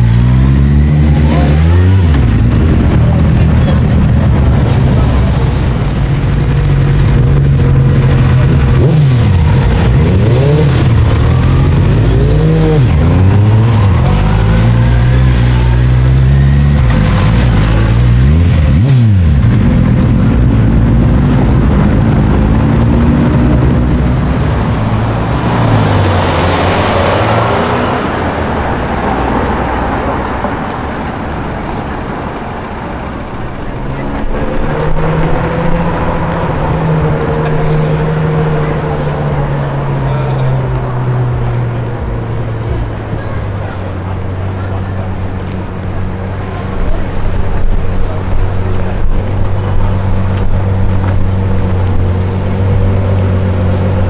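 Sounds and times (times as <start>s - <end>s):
sports car engines driving past: 0.0s - 54.0s.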